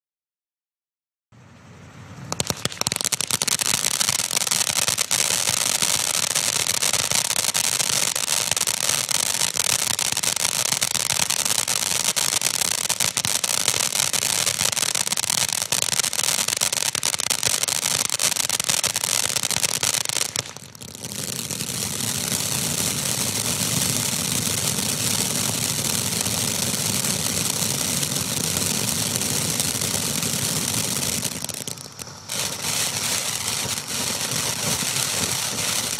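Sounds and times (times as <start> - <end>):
firework fountain hissing and crackling: 2.3 - 35.9.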